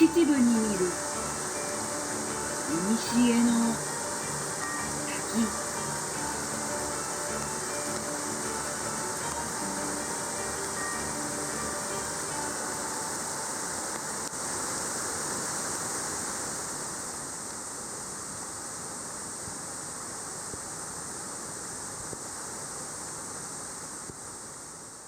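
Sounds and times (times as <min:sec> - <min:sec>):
waterfall pouring heavily: 0:00.0 - 0:24.6.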